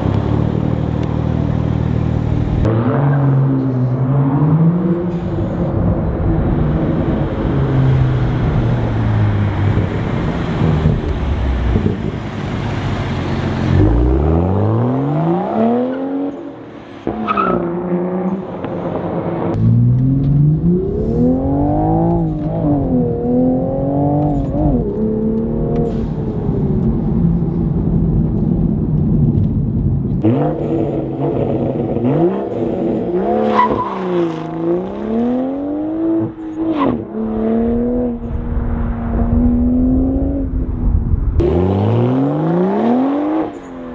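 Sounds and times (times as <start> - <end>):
car engine accelerating: 0.0 - 29.5, 30.1 - 43.9.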